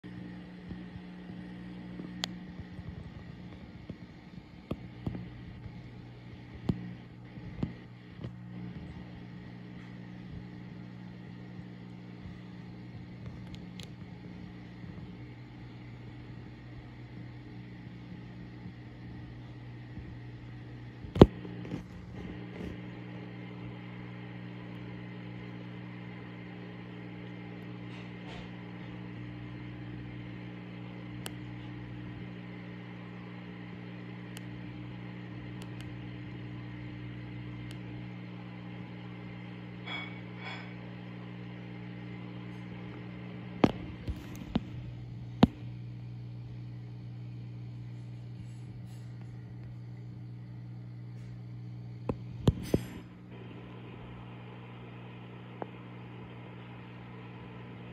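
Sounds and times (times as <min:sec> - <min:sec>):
aquarium equipment humming: 0:00.0 - 0:57.9.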